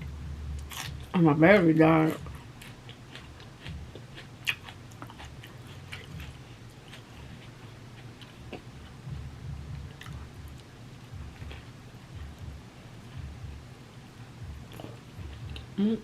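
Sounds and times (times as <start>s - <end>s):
person chewing food: 0.5s - 1.1s, 2.0s - 13.5s, 14.6s - 15.8s.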